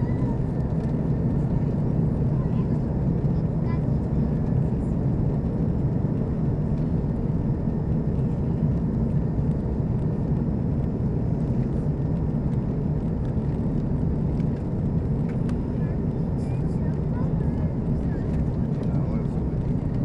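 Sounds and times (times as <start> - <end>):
airplane engines rumbling: 0.0 - 20.0.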